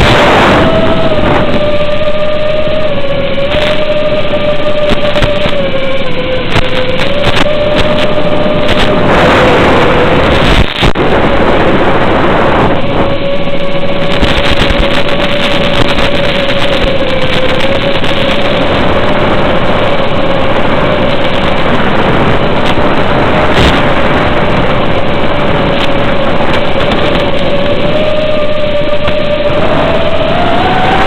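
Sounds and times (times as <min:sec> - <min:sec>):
airflow rush: 0:00.0 - 0:31.0
electric motor whine: 0:00.0 - 0:31.0.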